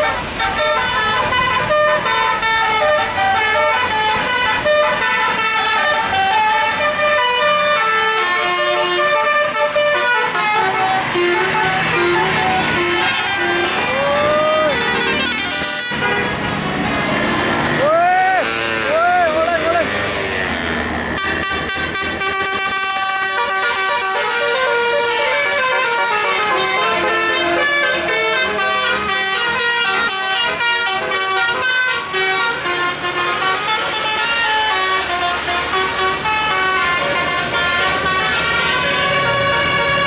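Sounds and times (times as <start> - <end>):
musical air horn melody: 0.0 - 40.0.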